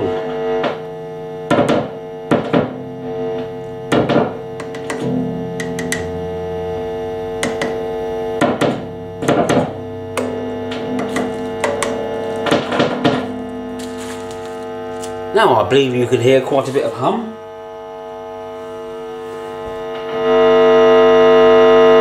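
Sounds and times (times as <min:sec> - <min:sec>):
electrical crackles and pops: 0:00.0 - 0:21.2
amplifier mains hum: 0:00.0 - 0:22.0.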